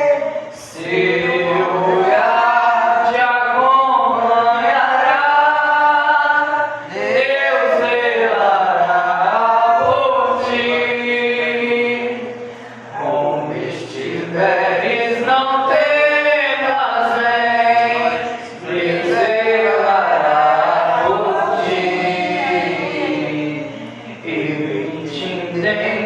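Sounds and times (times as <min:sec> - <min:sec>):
man singing a hymn: 0:00.0 - 0:12.4, 0:13.0 - 0:26.0.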